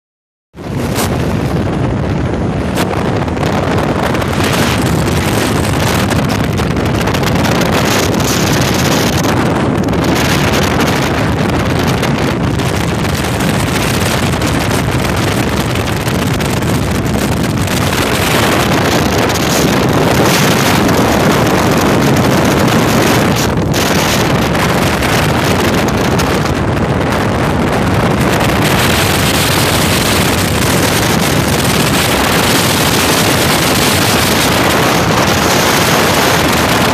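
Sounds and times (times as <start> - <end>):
outboard engine: 0.6 - 36.9
water noise: 0.6 - 36.9
wind rushing over microphone: 0.6 - 36.9.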